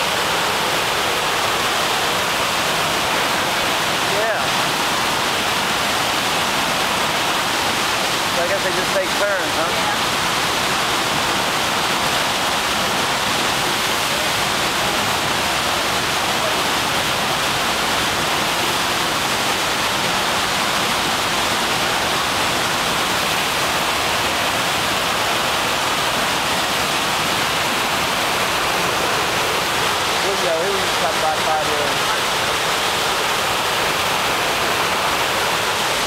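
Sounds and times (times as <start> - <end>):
whitewater rushing: 0.0 - 36.0.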